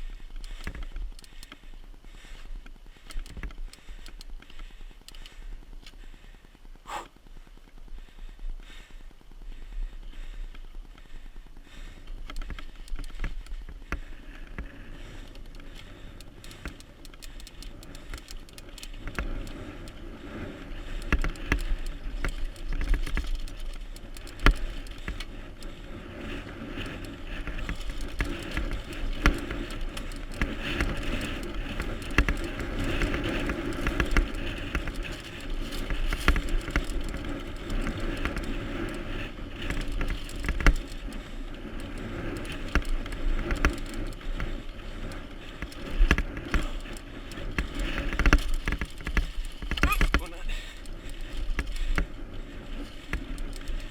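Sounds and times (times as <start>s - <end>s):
bike rattling clicks and knocks: 0.0s - 53.9s
bike tyre noise on rough ground: 0.0s - 53.9s.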